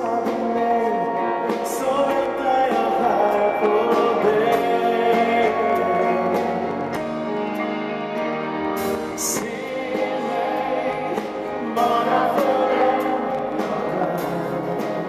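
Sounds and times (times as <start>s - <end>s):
man singing into microphone: 0.0s - 7.0s, 9.1s - 15.0s
instrumental accompaniment: 0.0s - 15.0s.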